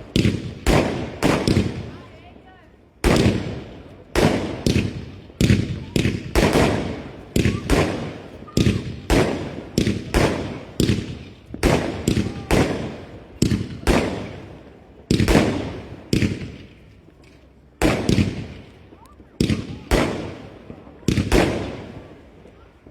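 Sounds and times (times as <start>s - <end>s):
fireworks bangs echoing: 0.0s - 22.9s.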